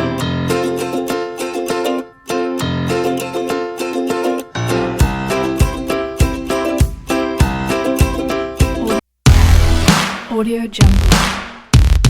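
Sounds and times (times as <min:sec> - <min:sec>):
bouncy plucked-string tune: 0:00.0 - 0:09.9.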